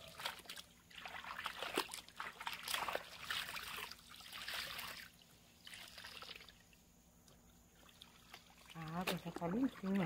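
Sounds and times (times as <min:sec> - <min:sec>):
water splashing from wet laundry: 0:00.0 - 0:06.7, 0:07.8 - 0:10.0.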